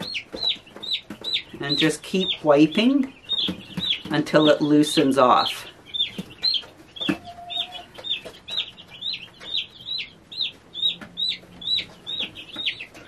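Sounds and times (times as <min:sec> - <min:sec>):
chick peeping loudly: 0:00.0 - 0:13.0.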